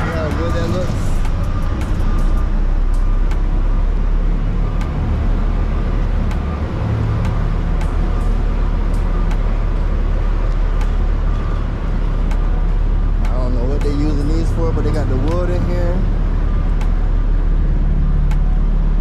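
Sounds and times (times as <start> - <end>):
heavy machinery engine rumbling: 0.0 - 19.0.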